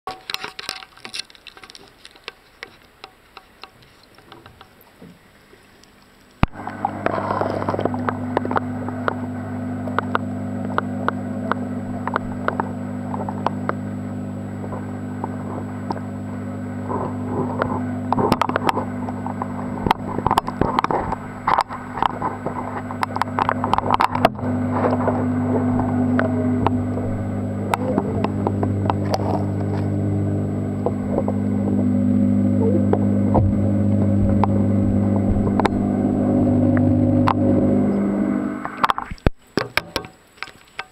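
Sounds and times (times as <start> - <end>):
small clicks and crackles: 0.1 - 31.8, 36.7 - 40.9
aquarium pump hum underwater: 3.0 - 40.6.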